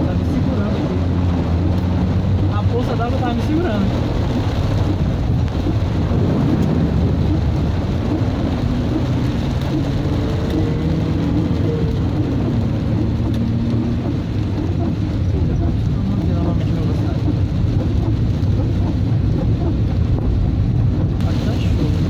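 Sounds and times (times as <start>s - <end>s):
car engine running: 0.0s - 22.0s
heavy rain on car: 0.0s - 22.0s
tyres through standing water: 0.0s - 22.0s.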